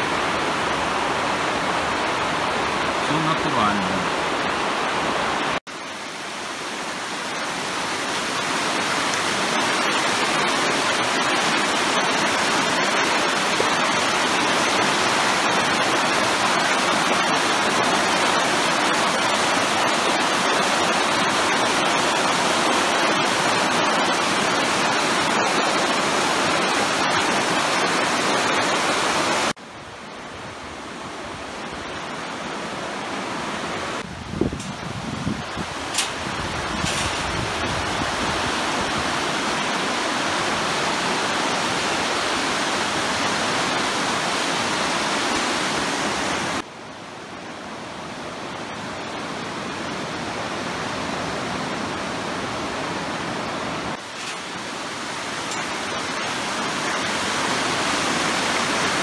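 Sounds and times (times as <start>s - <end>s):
river rapids rushing over rocks: 0.0s - 29.6s, 35.4s - 59.0s
soft rush of flowing water: 0.0s - 59.0s.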